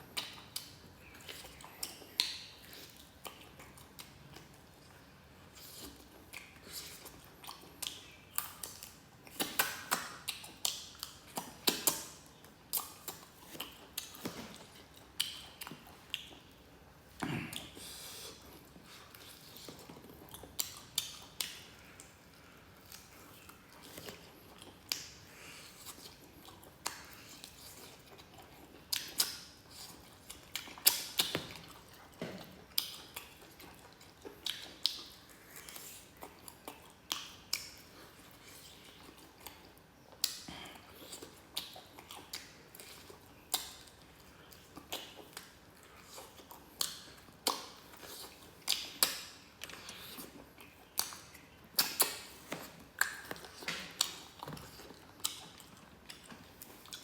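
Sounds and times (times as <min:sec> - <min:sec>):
person chewing crisp food: 0:00.1 - 0:57.0.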